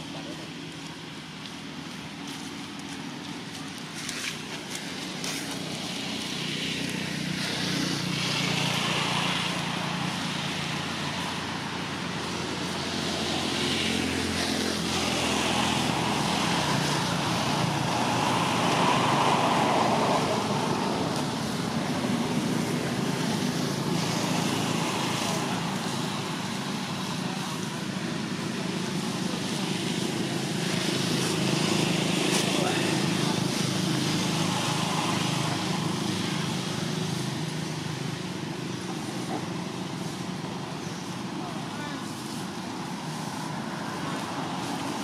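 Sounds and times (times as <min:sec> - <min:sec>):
traffic engine hum: 0:00.0 - 0:45.0
vehicles passing by: 0:00.0 - 0:45.0.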